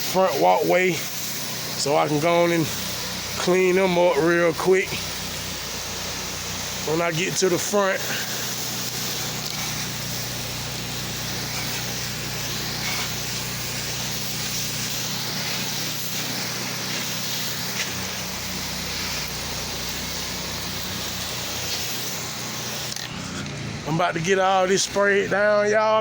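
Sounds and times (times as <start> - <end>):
pressure washer engine hum: 0.0 - 26.0
water spraying hiss: 0.0 - 26.0.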